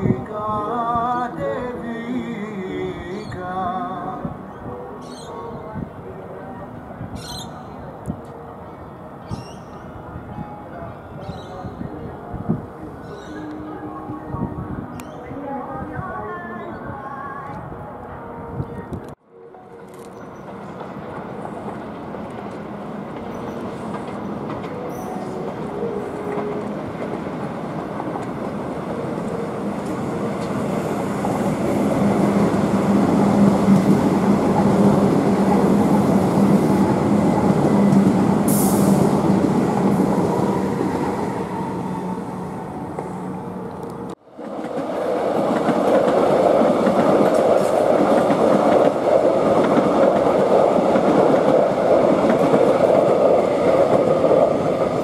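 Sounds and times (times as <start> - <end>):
electric trains passing: 0.0 - 55.0.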